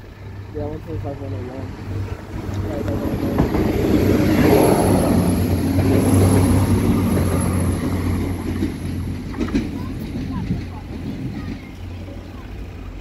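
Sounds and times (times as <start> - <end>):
train engine drone: 0.0 - 13.0
train wheels rumbling on rails: 0.0 - 13.0.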